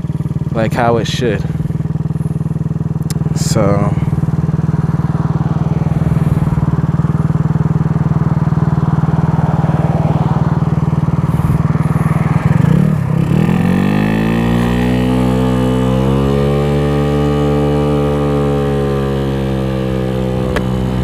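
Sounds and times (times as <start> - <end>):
scooter engine accelerating: 0.0 - 21.0.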